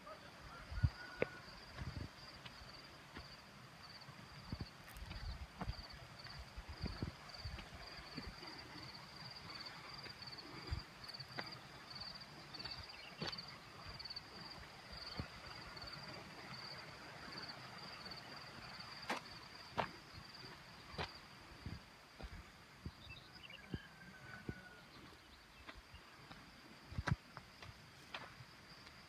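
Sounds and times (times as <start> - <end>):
insects chirping trill: 0.0 - 29.0.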